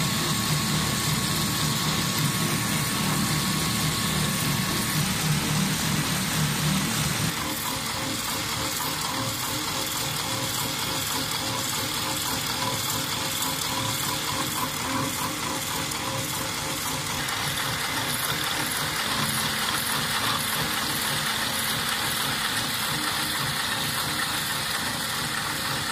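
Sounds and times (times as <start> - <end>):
sewing machine clattering: 0.3 - 25.9.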